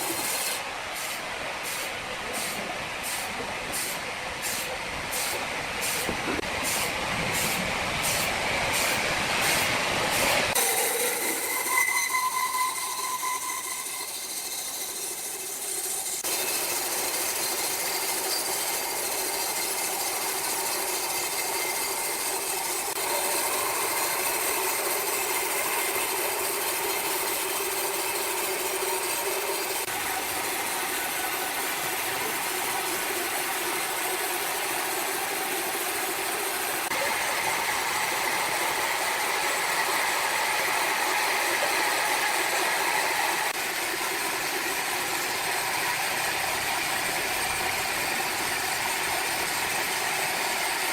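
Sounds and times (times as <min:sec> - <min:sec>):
sawmill machinery drone and rattle: 0:00.0 - 0:50.9.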